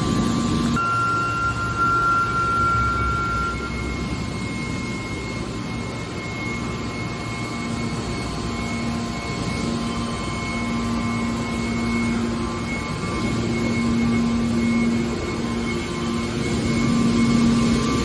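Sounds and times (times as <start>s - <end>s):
hydraulic machine hum and whine: 0.0s - 18.0s.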